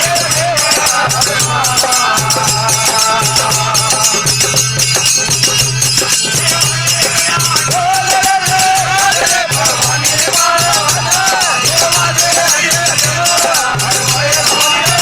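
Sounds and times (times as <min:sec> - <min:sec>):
held melody line: 0:00.0 - 0:15.0
jingling percussion rhythm: 0:00.0 - 0:15.0.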